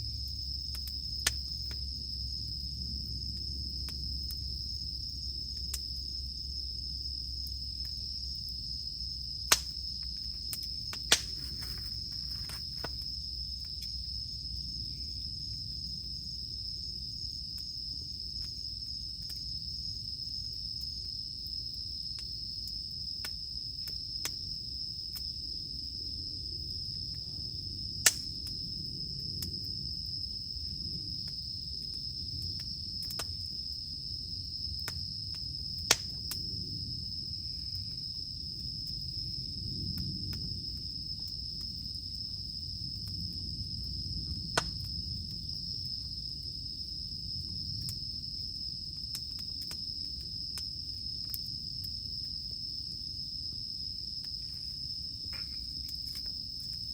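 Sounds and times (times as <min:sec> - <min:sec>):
campfire rumble: 0:00.0 - 0:56.9
cicadas droning: 0:00.0 - 0:56.9
fire crackling pops: 0:00.0 - 0:56.9.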